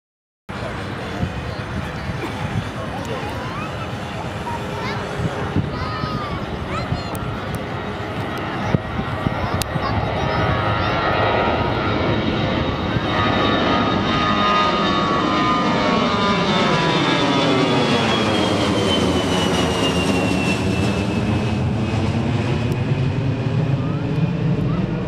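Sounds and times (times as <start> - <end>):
jet airliner passing overhead: 0.5 - 25.0.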